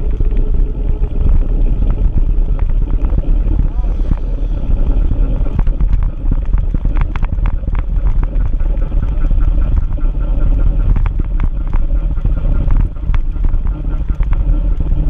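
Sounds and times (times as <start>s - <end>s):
bike rattles and clicks: 0.0s - 15.0s
tyre rumble on asphalt: 0.0s - 15.0s
wind buffeting microphone: 0.0s - 15.0s.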